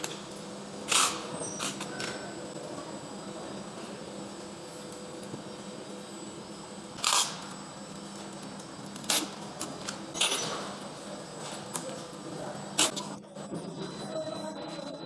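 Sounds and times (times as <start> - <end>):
workshop hum: 0.0 - 15.0.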